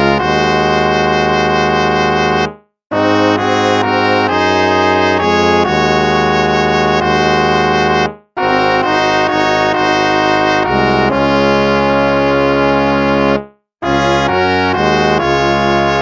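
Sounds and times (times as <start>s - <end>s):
brass playing a hymn: 0.0s - 16.0s.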